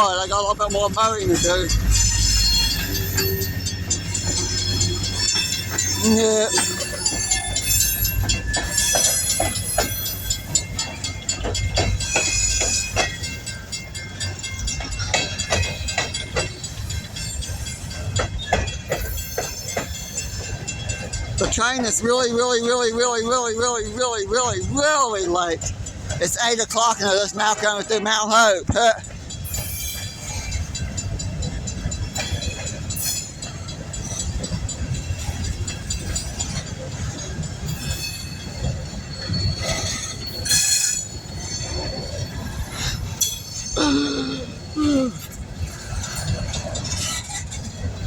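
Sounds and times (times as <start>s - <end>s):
train rumbling: 0.0s - 48.0s
wheels clicking over rail joints: 0.0s - 48.0s.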